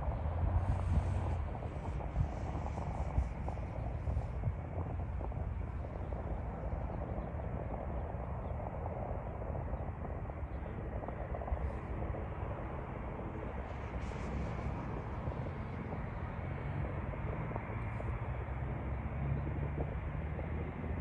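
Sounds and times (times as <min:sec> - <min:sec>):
distant jet rumble: 0:00.0 - 0:21.0.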